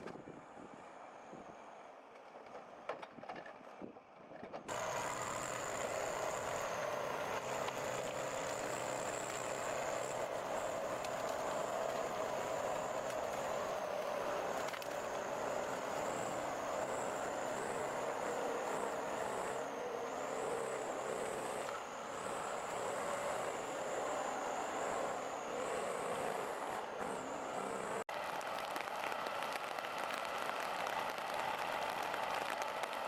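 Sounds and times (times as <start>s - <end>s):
heavy machine engine whining: 4.7s - 32.9s.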